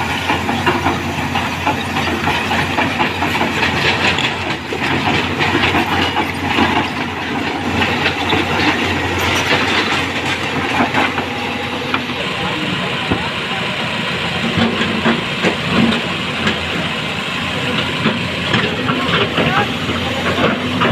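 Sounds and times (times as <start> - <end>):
rapid machinery clatter: 0.0 - 20.9.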